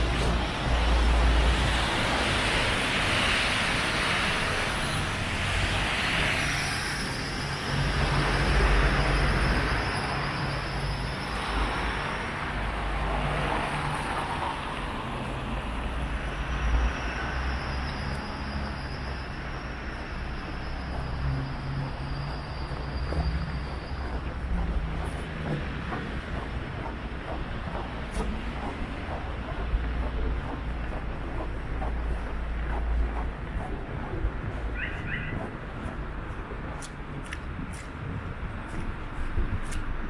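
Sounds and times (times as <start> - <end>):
cars and bus passing: 0.0 - 40.0.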